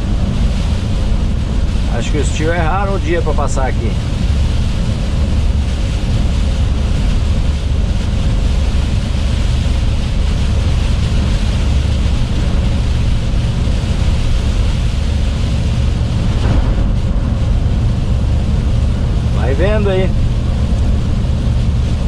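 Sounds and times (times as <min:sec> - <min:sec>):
rain: 0:00.0 - 0:22.0
truck engine running: 0:00.0 - 0:22.0
wind noise: 0:00.0 - 0:22.0.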